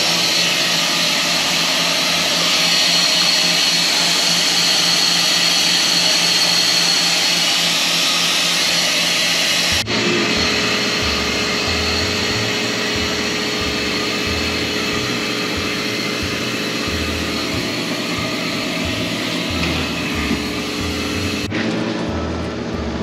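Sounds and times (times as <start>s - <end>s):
machine whirring with hissing rush: 0.0s - 22.8s.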